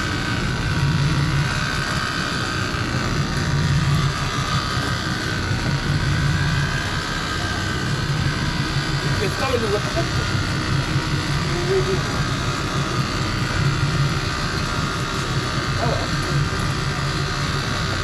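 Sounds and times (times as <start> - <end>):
motor running with whine: 0.0 - 18.0.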